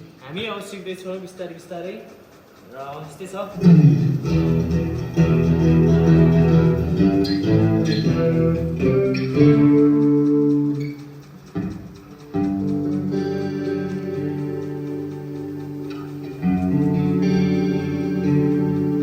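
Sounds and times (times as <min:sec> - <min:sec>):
electric guitar notes and chords: 0:03.6 - 0:19.0.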